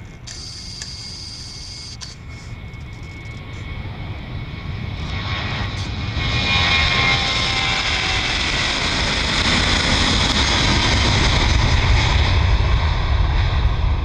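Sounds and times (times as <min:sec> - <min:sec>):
jet engine whine: 0:00.0 - 0:14.0
jet engines roaring at takeoff: 0:00.0 - 0:14.0.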